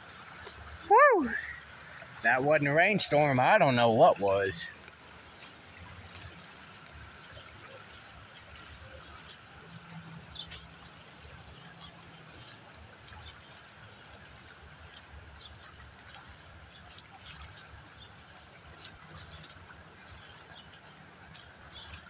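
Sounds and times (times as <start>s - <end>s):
floodwater rushing through creek: 0.0s - 22.0s.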